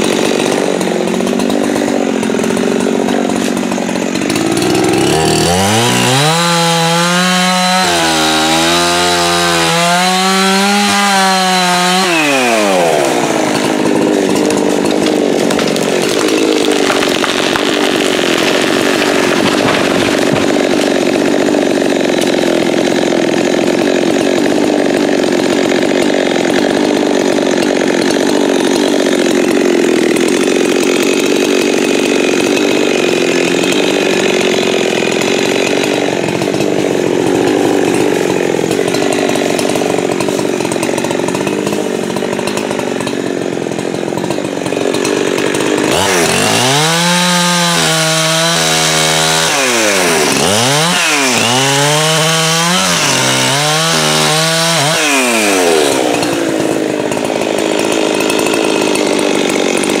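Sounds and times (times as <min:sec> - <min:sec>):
chainsaw idling and revving: 0:00.0 - 1:00.0.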